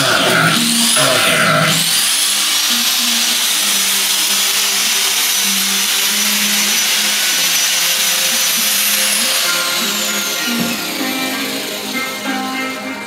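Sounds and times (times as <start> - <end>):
power tool whining on wood: 0.0 - 13.0.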